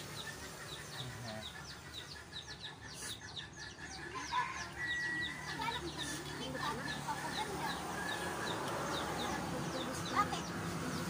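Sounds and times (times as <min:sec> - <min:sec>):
bird chirping: 0:00.0 - 0:11.0
lower bird calls: 0:00.0 - 0:11.0.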